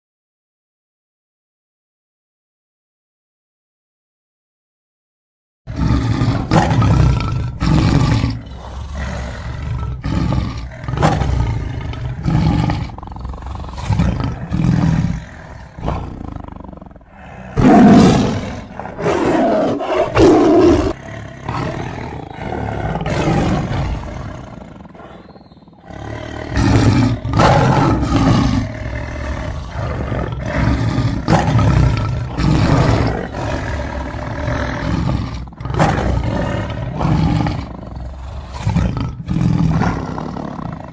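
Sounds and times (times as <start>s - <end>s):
tiger roaring: 5.7s - 40.9s.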